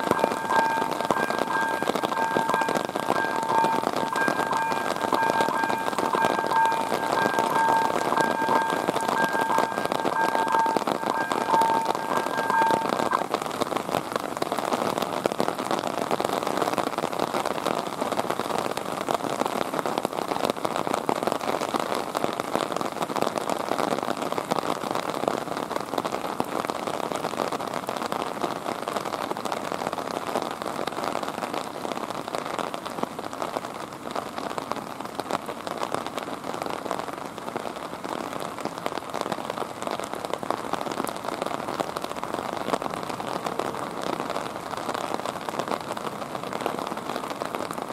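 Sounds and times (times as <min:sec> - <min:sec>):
rain patter: 0:00.0 - 0:47.9.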